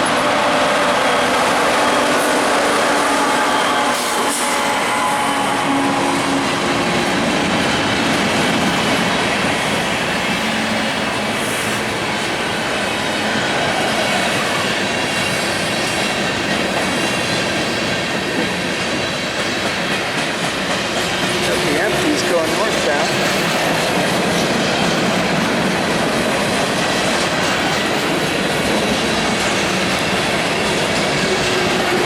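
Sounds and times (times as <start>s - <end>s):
train cars rolling past: 0.0s - 32.0s.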